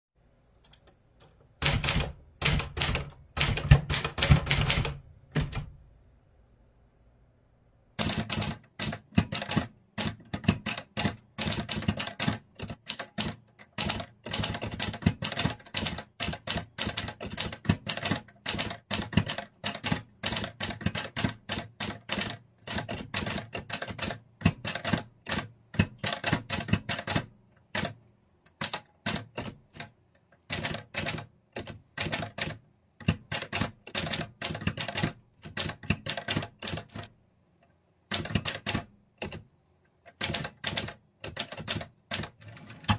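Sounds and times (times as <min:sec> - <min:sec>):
typewriter keystrokes clacking: 0:01.6 - 0:05.8, 0:08.0 - 0:37.1, 0:38.1 - 0:39.5, 0:40.1 - 0:42.9.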